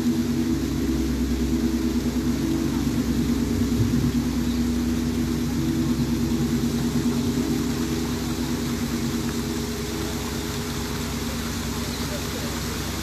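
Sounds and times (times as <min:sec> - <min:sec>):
gong ringing: 0:00.0 - 0:13.0
waterfall rushing: 0:00.0 - 0:13.0.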